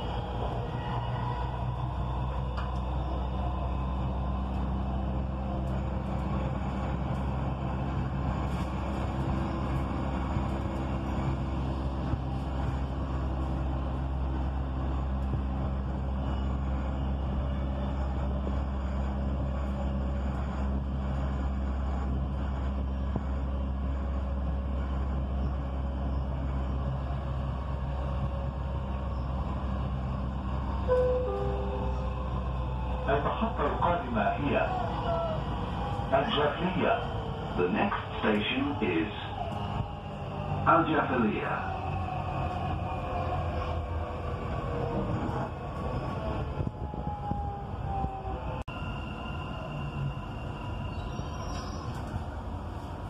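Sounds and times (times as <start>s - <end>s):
train hum and rumble: 0.0s - 53.0s.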